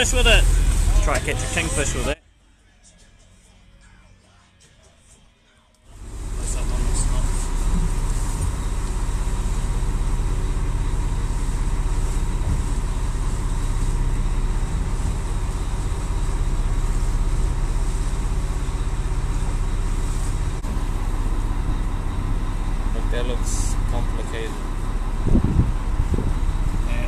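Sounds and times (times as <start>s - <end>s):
boat engine droning: 0.0s - 4.3s, 5.9s - 27.0s.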